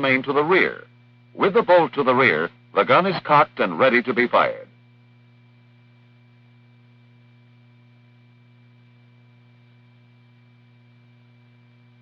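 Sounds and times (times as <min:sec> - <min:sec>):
faint hum with hiss: 0:00.0 - 0:12.0.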